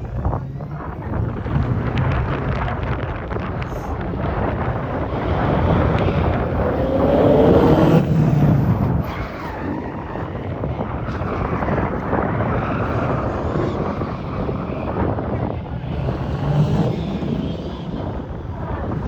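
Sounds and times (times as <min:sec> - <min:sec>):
rally car engine accelerating: 0:00.0 - 0:19.0
second car engine: 0:00.0 - 0:19.0.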